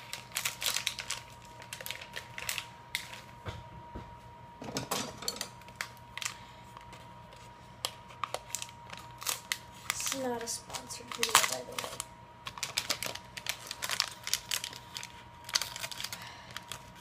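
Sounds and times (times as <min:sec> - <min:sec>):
plastic packaging crinkling: 0:00.0 - 0:03.4, 0:05.3 - 0:17.0.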